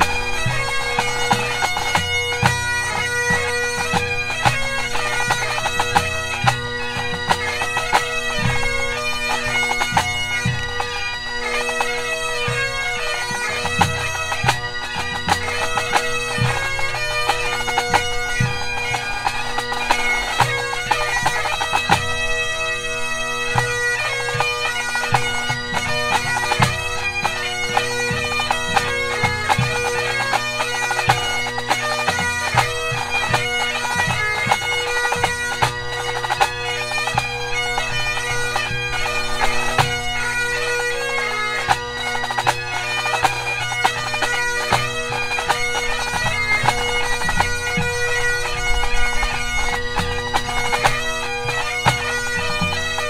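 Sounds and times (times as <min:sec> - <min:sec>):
bagpipes playing a tune: 0:00.0 - 0:53.0.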